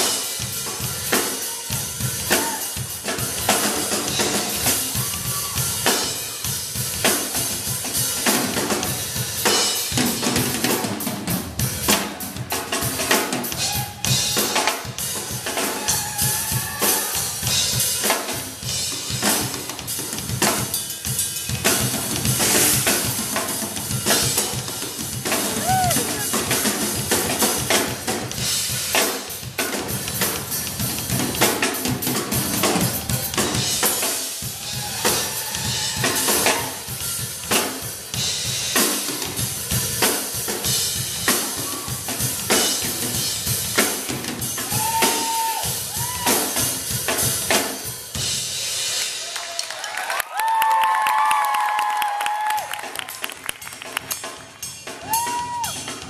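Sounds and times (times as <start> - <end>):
drum kits playing fast beats: 0.0 - 56.0.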